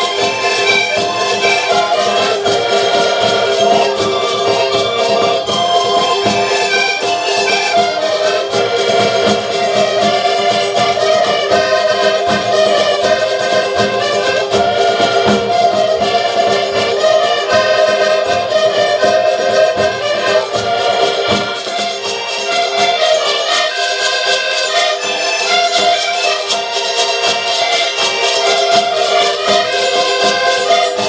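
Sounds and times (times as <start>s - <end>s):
accordions playing folk tune: 0.0s - 31.0s.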